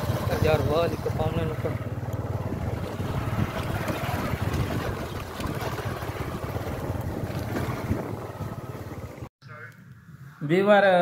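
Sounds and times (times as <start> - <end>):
small engine running: 0.0 - 9.3
wind buffeting microphone: 0.0 - 9.3.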